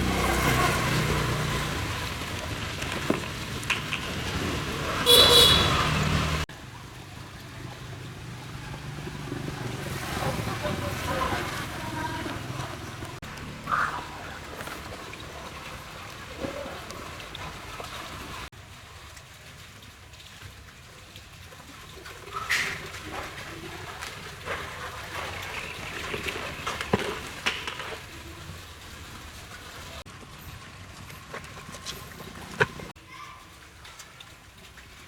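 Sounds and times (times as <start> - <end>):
water splashing and running: 0.0 - 35.0.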